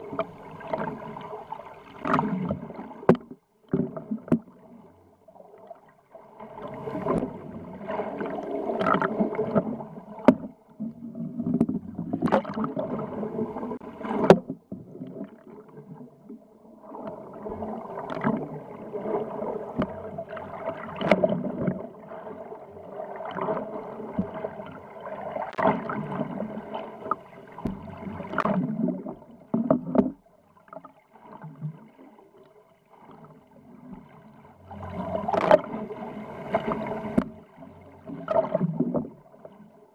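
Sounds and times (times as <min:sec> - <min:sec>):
water rushing underwater: 0:00.0 - 0:39.9.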